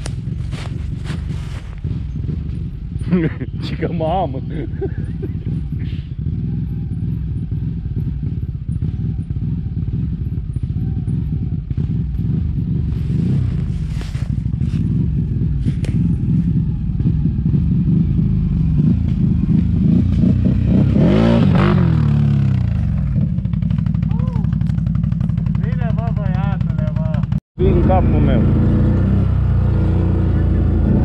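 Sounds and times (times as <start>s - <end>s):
atv engine passing by: 0.0s - 26.7s, 27.6s - 31.0s.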